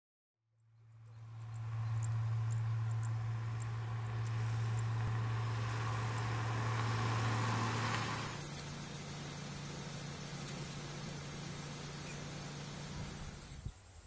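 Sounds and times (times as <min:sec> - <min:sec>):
car engine hum: 0:00.6 - 0:13.6.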